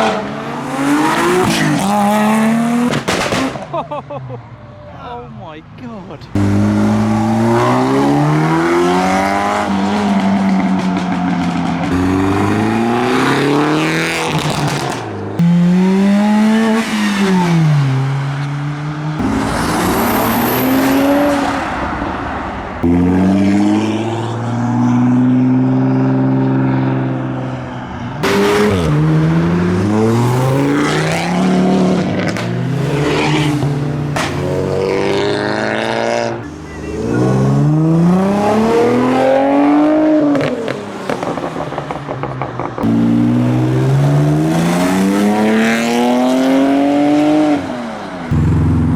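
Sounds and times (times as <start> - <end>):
cars accelerating hard: 0.0 - 4.3, 5.8 - 48.9.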